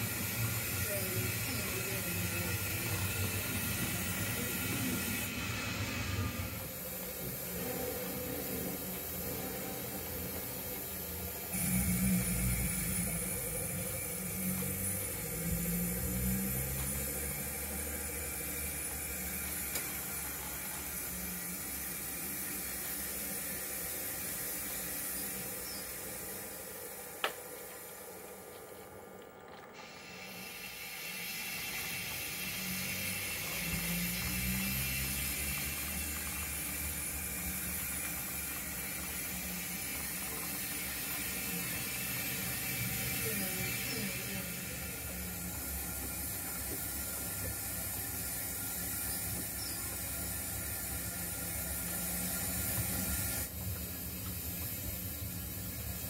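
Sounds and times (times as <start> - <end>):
model locomotive running on track: 0.0 - 56.0.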